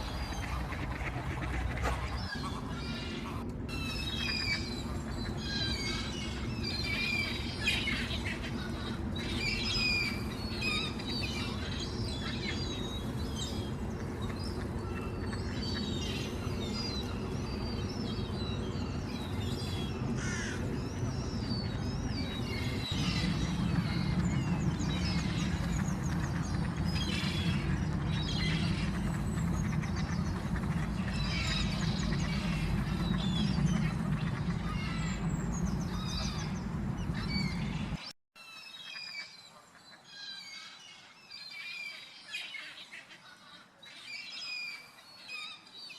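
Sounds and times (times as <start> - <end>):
steady low rumble: 0.0 - 38.1
birds chirping and calling: 0.0 - 45.9.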